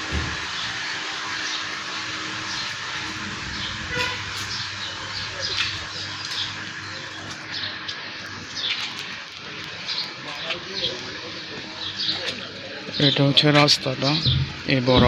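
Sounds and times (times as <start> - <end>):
steady low hum: 0.0 - 15.0
small birds chirping: 2.4 - 14.8.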